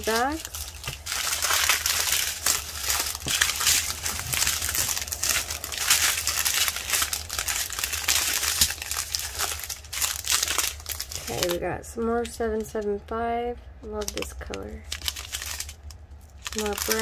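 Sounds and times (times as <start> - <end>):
plastic bags crinkling: 0.0 - 11.6, 13.9 - 17.0.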